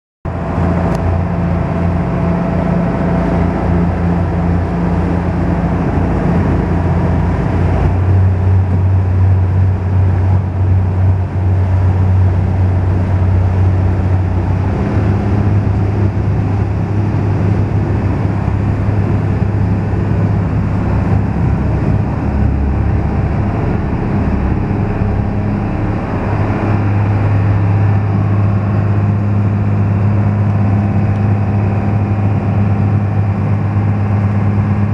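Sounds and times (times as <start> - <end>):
boat wake washing: 0.3 - 34.9
ferry engine drone: 0.3 - 34.9.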